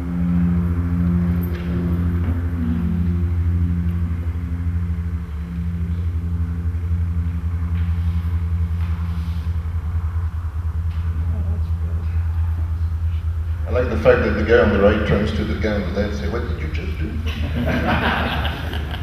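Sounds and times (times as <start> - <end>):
aircraft piston engine and propeller: 0.0 - 19.0.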